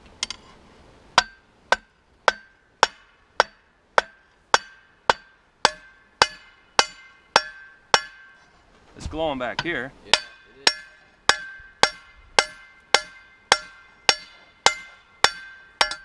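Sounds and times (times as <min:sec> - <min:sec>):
hammer on steel anvil: 0:01.2 - 0:08.5, 0:09.5 - 0:16.0.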